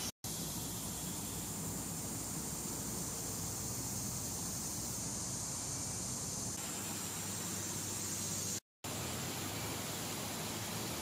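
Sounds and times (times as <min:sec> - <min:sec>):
outdoor ambient hiss: 0:00.0 - 0:11.0.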